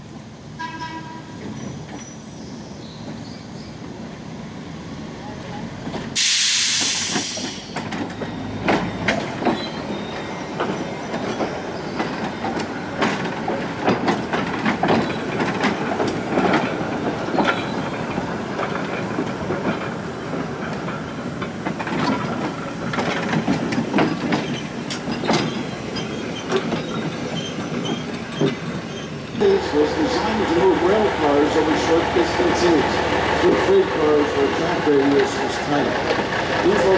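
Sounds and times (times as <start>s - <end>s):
subway cars rumbling on rails: 0.0s - 36.9s
wheels clacking over rail joints: 6.8s - 36.9s.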